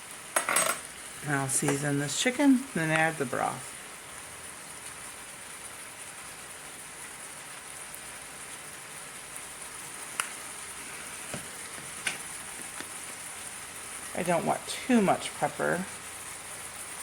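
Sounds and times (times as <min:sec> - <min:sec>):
chicken sizzling in a pot: 0:00.0 - 0:17.0.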